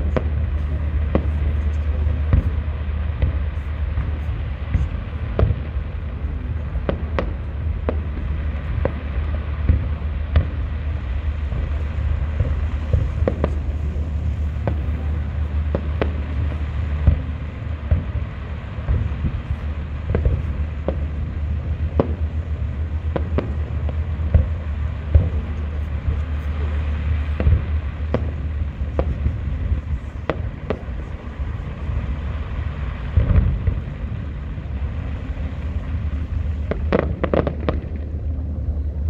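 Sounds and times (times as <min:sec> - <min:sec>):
low rumble: 0:00.0 - 0:39.0.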